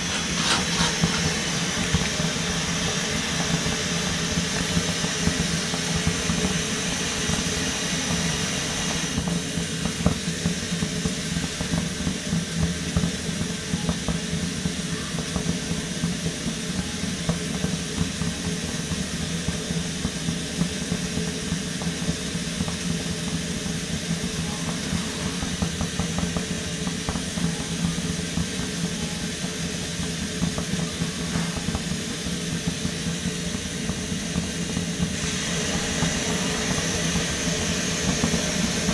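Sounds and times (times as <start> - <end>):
camping stove burning with hiss: 0.0 - 38.9.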